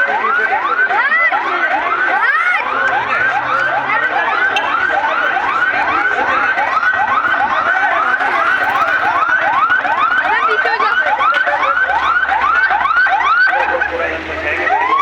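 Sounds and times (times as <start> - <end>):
fire engine siren yelping: 0.0 - 15.0.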